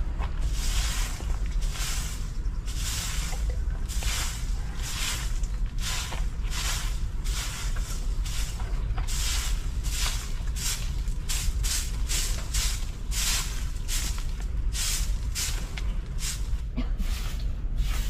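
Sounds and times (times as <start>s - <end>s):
broom sweeping dirt path: 0.0s - 18.0s
steady low rumble: 0.0s - 18.0s.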